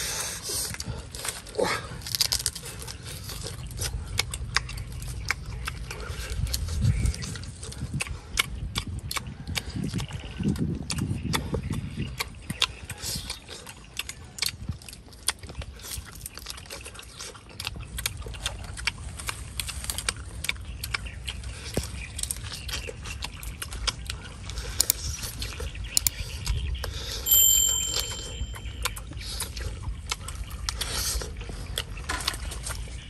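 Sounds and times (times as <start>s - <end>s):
chewing with wet smacking: 0.0s - 27.3s, 28.2s - 33.0s.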